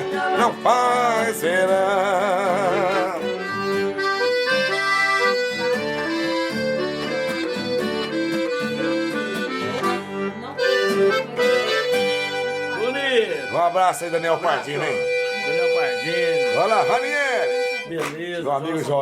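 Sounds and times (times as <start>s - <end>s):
accordion melody: 0.0s - 18.2s.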